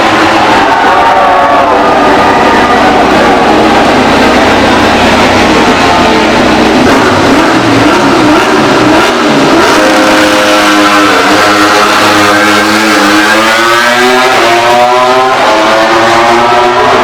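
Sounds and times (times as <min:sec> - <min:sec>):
racing motorcycle engine accelerating: 0:00.0 - 0:17.0.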